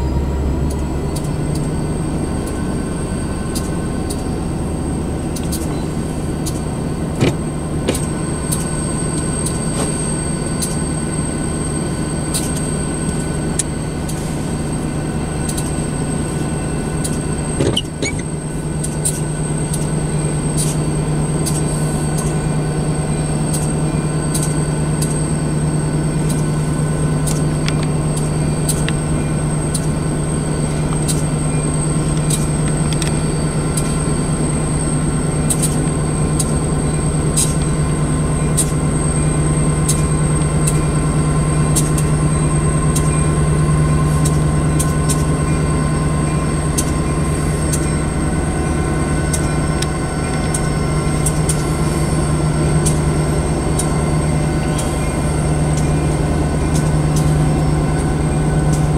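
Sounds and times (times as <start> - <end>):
diesel locomotive engine drone: 0.0 - 58.9.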